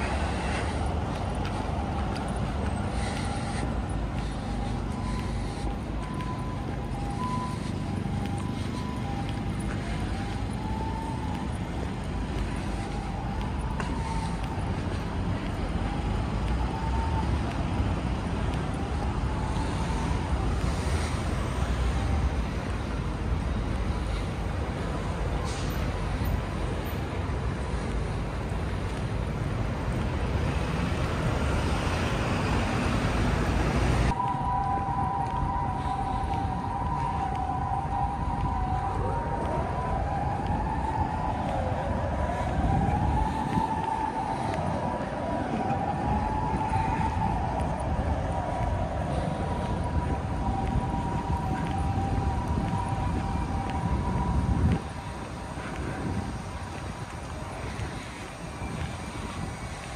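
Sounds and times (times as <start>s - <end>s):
emergency vehicle siren: 0.0s - 59.9s
road traffic rumble: 0.0s - 59.9s.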